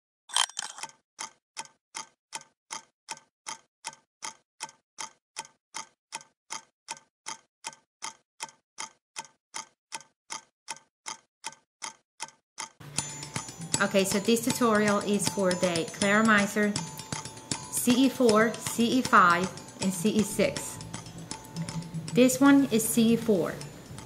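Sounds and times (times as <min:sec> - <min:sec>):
clock-like ticking: 0:00.6 - 0:24.0.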